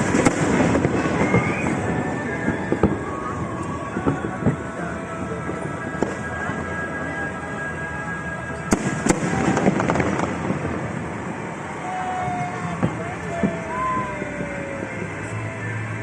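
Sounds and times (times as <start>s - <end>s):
background music: 0.0s - 16.0s
fireworks bangs: 0.0s - 16.0s
fireworks crackling: 0.0s - 16.0s.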